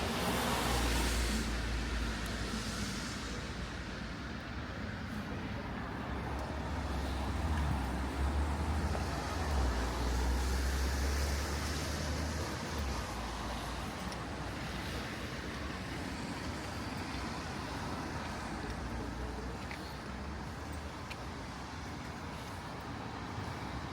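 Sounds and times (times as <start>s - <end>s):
rain on wet street: 0.0s - 23.9s
tyre hiss on wet road: 0.0s - 23.9s.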